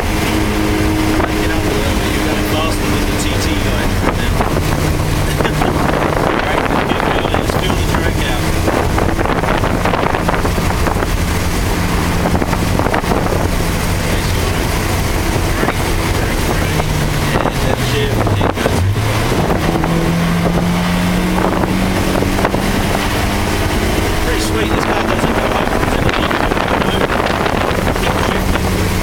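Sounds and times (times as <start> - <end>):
car engine from inside cabin: 0.0 - 29.0
wet road and wind noise: 0.0 - 29.0.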